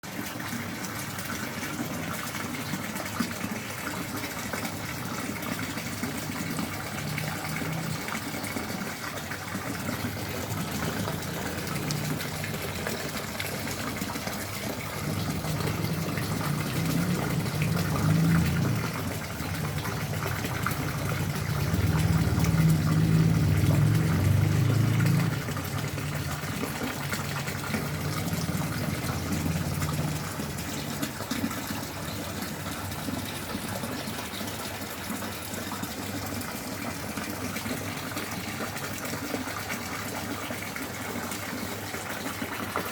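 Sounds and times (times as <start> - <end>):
running water: 0.0 - 42.9.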